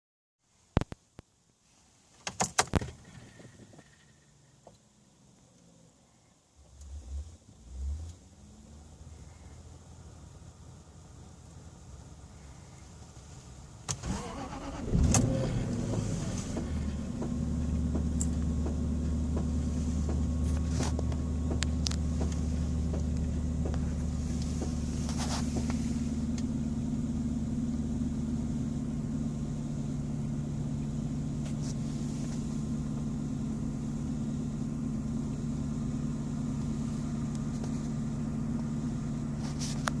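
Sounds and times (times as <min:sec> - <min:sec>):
car engine idling: 0:03.4 - 0:40.0
car engine starting: 0:06.6 - 0:40.0.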